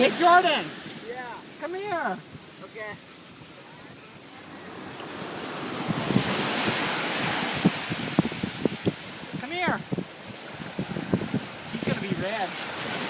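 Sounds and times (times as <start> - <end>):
ocean wave rushing in: 0.0 - 13.0
wind buffeting the microphone: 1.9 - 13.0.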